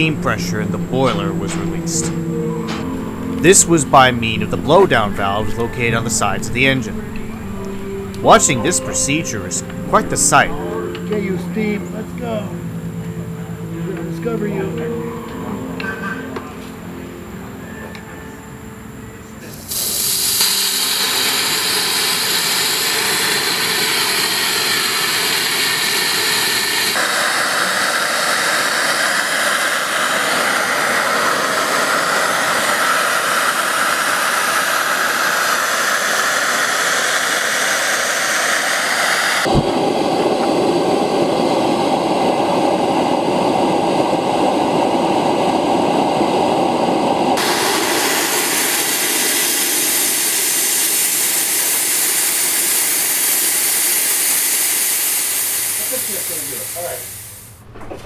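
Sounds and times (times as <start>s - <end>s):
steam hissing from valves: 0.0s - 10.7s, 19.4s - 57.6s.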